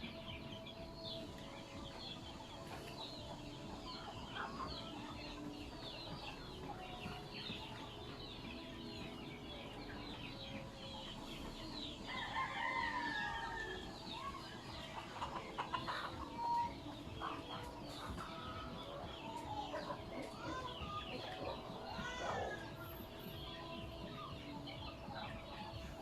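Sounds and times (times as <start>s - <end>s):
chickens clucking and calling: 0.0s - 26.0s.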